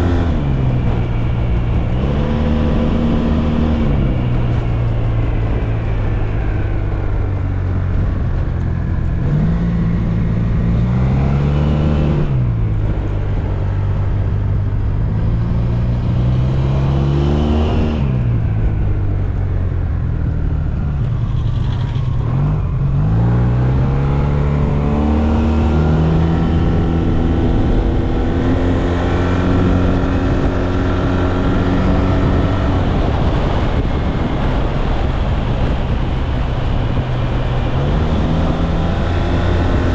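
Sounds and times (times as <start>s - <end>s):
steady rush of noise: 0.0s - 39.9s.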